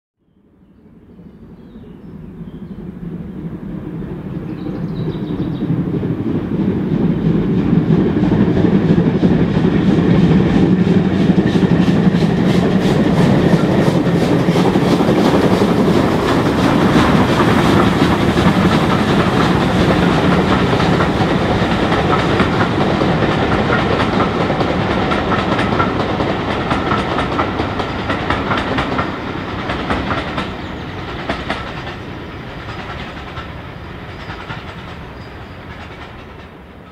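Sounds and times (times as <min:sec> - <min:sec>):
train wheels clattering on rails: 0:04.5 - 0:36.9
steam engine exhaust beat: 0:05.1 - 0:35.0.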